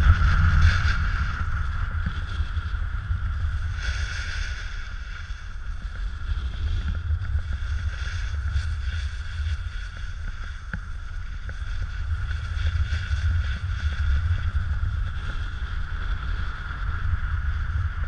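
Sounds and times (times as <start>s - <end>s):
snowboard sliding over snow: 0.0s - 18.0s
wind buffeting microphone: 0.0s - 18.0s.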